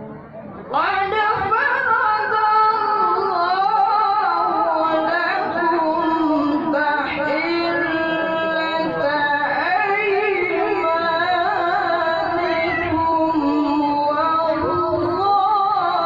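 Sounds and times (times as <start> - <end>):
person reciting melodically: 0.7 - 16.0.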